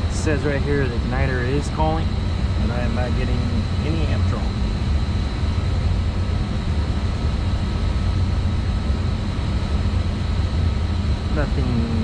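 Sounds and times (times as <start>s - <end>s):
low rumble of boiler equipment: 0.0s - 12.0s
thin high whine: 0.0s - 12.0s.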